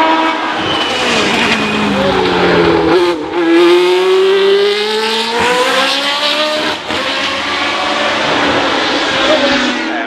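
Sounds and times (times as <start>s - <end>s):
racing car engine accelerating: 0.0s - 10.0s.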